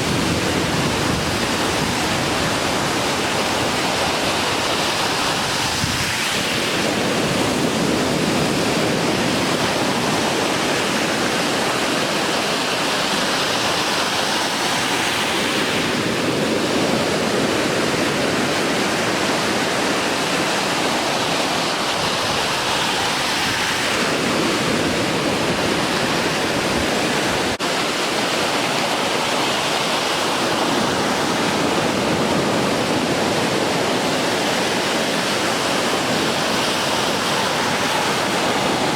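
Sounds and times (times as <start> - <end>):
heavy surf breaking: 0.0 - 38.9.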